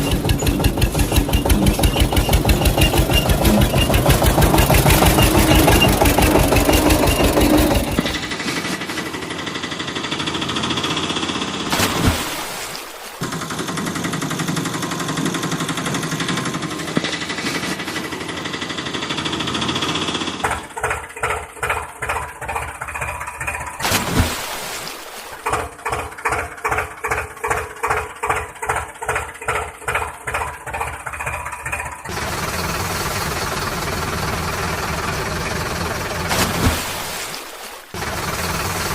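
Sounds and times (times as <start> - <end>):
heavy vehicle engine chugging: 0.0 - 11.7, 13.2 - 23.8, 25.5 - 36.4, 38.0 - 38.9.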